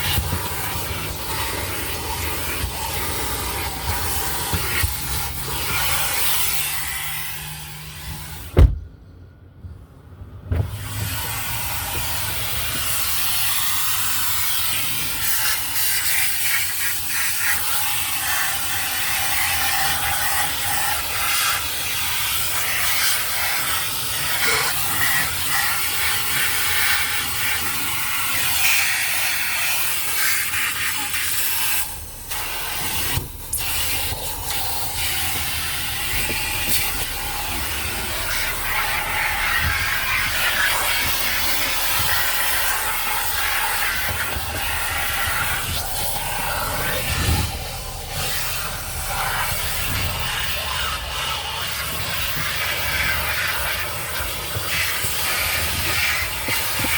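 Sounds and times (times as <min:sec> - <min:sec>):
car wash hissing: 0:00.0 - 0:08.9, 0:10.4 - 0:56.9.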